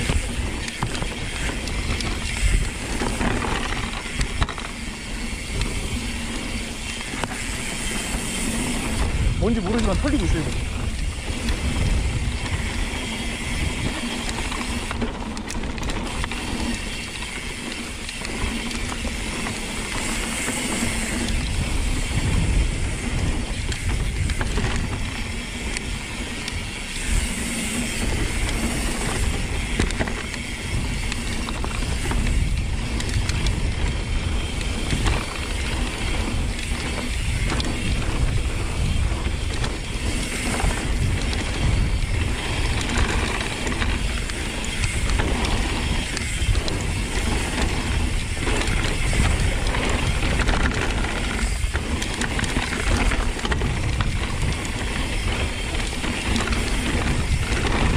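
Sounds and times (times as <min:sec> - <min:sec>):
bike rattling over rocks: 0:00.0 - 0:57.9
freehub ratchet clicking: 0:00.0 - 0:57.9
wind rumble on microphone: 0:00.0 - 0:57.9.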